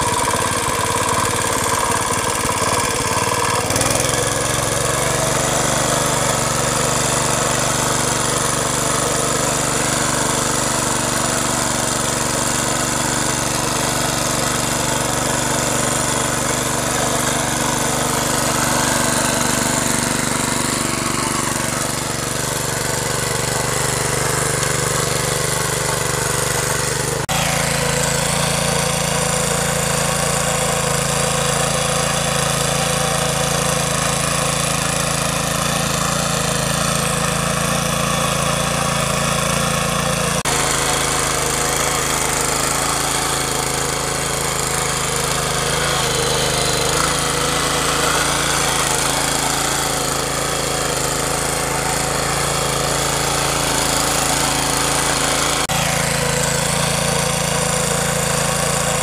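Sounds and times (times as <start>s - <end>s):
small engine running under load: 0.0s - 59.0s.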